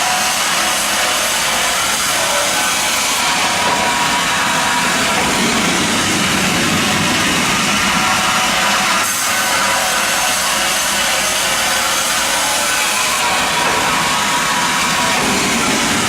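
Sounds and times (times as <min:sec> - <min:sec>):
band sawmill sawing wood: 0:00.0 - 0:16.0.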